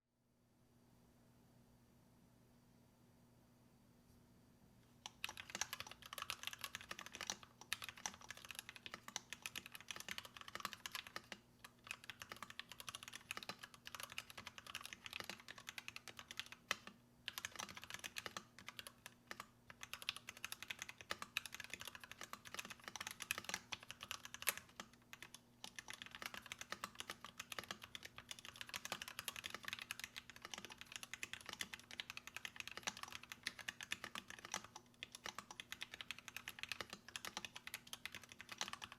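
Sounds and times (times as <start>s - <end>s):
faint electrical hum: 0.2s - 38.9s
fast typing on mechanical keyboard: 5.0s - 38.9s.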